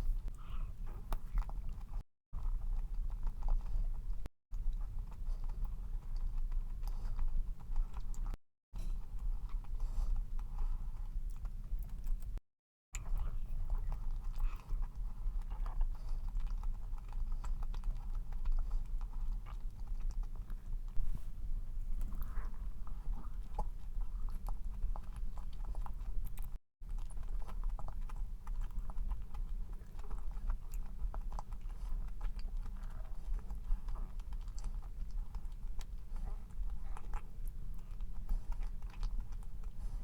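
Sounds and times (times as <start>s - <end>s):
chewing and biting cookie: 0.0s - 12.4s, 13.0s - 40.0s.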